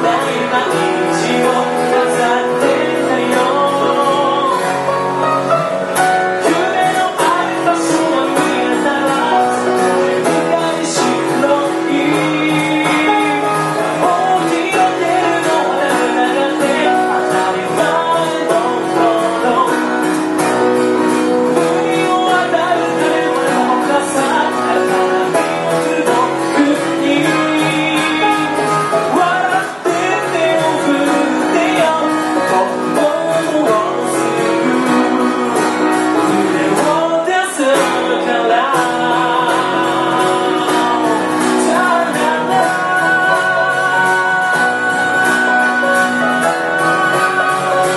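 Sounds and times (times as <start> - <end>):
acoustic guitar band playing: 0.0 - 47.9
person singing: 0.0 - 47.9.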